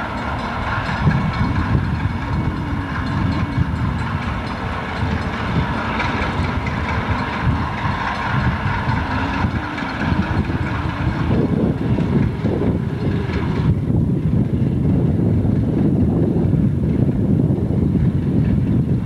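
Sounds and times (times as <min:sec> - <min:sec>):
diesel locomotive engines running: 0:00.0 - 0:19.0
wheels on rails: 0:00.0 - 0:19.0.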